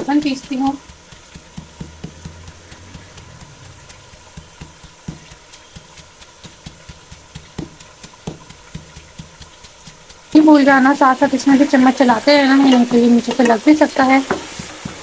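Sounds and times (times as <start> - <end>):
pestle pounding in a mortar: 0.0 - 15.0.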